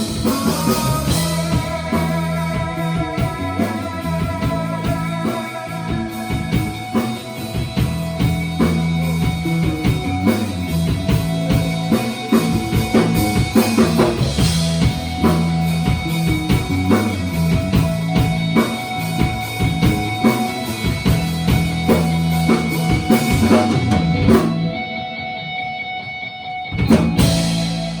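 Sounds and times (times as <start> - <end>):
rock band playing live: 0.0 - 28.0.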